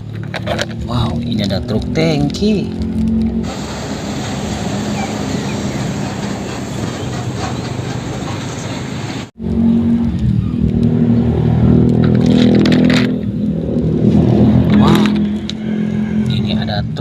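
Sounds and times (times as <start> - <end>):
louder engine sound: 0.0 - 7.2, 9.2 - 17.0
vehicle engine running: 0.0 - 17.0.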